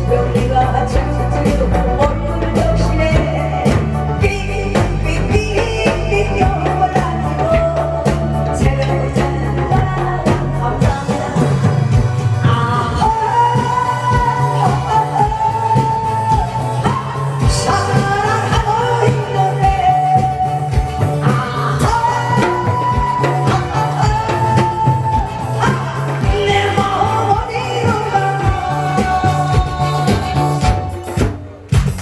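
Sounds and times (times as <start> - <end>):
person singing long notes: 0.0 - 31.3
backing music with drum beat: 0.0 - 32.0.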